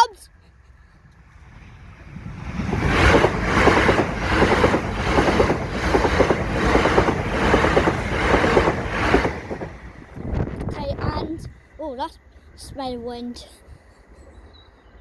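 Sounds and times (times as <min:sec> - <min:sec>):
rhythmic clatter of train wheels: 0:00.0 - 0:15.0
train passing: 0:00.0 - 0:15.0.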